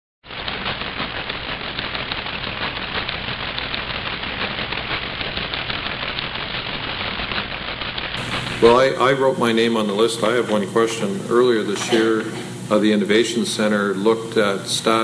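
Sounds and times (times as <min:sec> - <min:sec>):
crackling static: 0:00.3 - 0:15.0.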